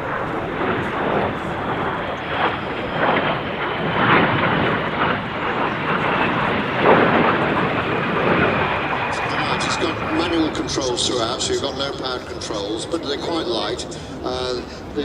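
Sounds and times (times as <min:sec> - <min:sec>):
jet engine rushing: 0:00.0 - 0:15.0.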